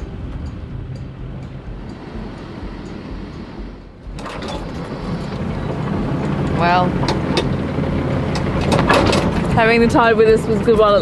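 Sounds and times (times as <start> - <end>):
low rumble of sailing yacht: 0.0 - 11.0
rushing wind and water: 0.0 - 11.0.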